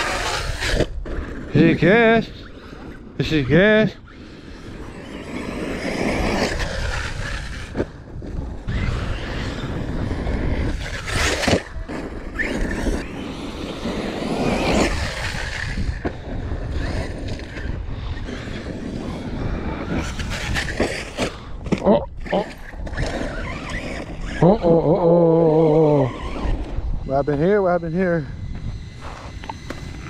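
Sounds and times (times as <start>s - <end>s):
rc truck motor whine: 0.0s - 30.0s
wind on microphone: 0.0s - 30.0s.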